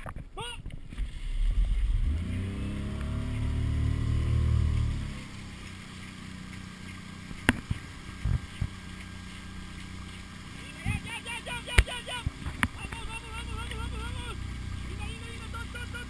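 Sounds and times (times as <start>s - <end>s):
paddles in water: 0.0s - 16.0s
motorboat engine passing: 0.8s - 16.0s.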